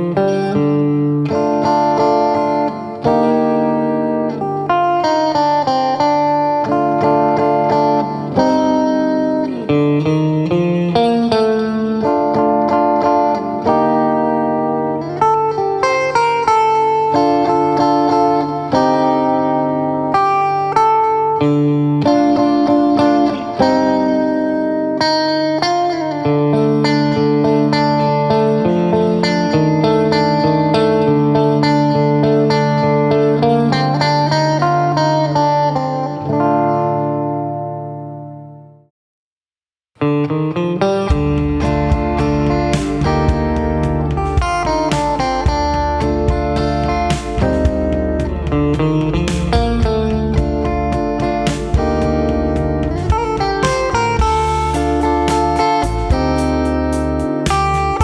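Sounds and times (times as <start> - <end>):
solo guitar playing: 0.0 - 38.9, 40.0 - 58.0.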